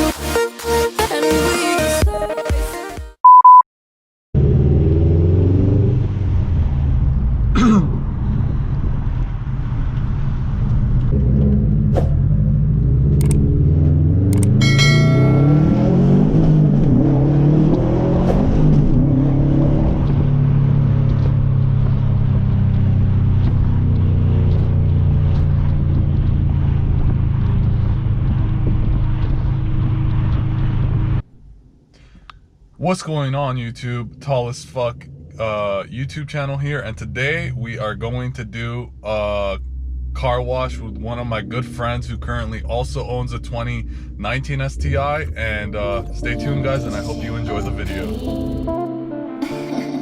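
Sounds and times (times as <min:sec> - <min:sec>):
car engine accelerating: 0:04.4 - 0:31.3, 0:32.8 - 0:50.0.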